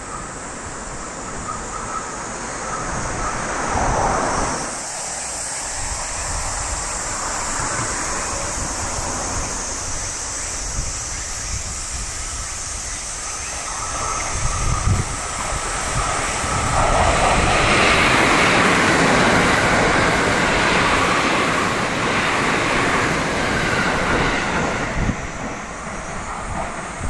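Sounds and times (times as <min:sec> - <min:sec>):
electric train passing at speed: 0:00.0 - 0:27.0.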